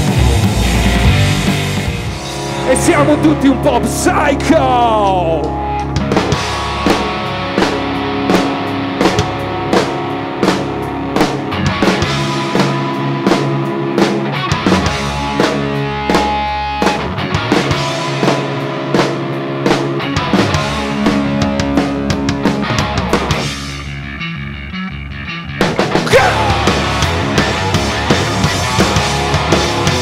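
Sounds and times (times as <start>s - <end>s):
drum kit beat: 0.0s - 23.6s, 25.6s - 30.0s
bass guitar: 0.0s - 30.0s
electric guitars: 0.0s - 30.0s.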